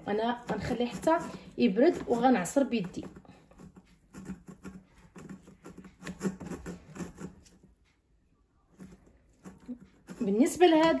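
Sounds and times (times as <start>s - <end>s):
spoon scraping metal strainer: 0.0s - 7.3s, 9.4s - 11.0s.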